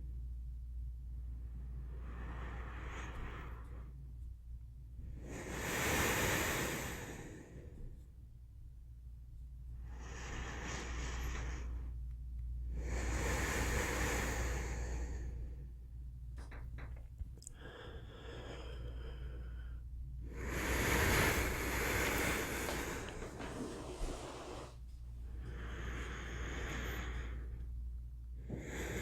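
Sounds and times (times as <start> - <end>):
steady low hum: 0.0 - 29.0
person breathing slowly: 1.3 - 4.0, 5.1 - 8.2, 9.8 - 12.0, 12.7 - 29.0.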